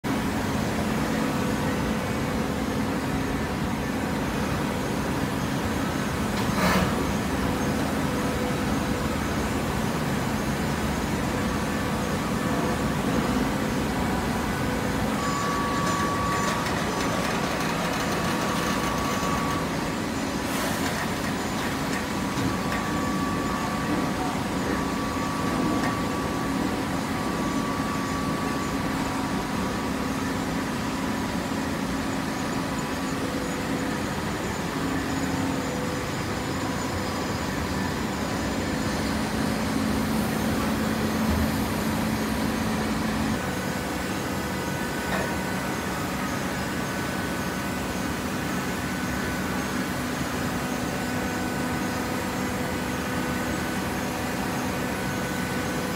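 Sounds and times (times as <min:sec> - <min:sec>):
hydraulic baler humming: 0:00.1 - 0:55.9.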